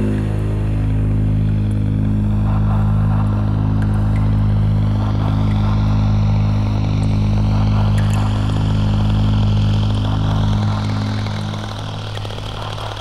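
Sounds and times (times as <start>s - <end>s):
low droning music with pulse: 0.0s - 13.0s.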